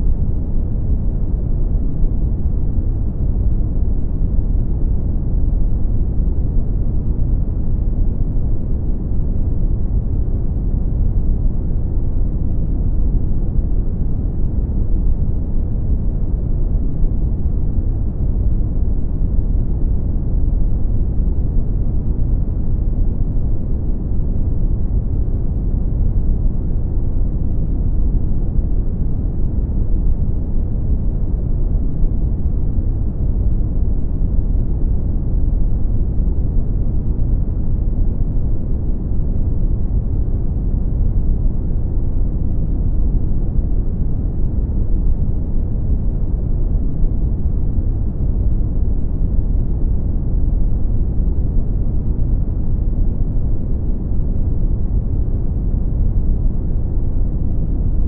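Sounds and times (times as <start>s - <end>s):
deep brown noise rumble: 0.0s - 58.0s.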